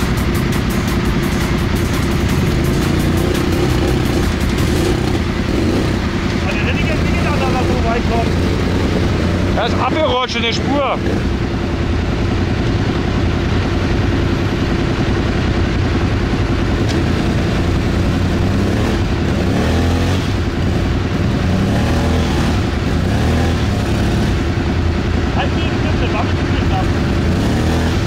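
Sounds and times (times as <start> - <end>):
quad engine droning: 0.0 - 28.0.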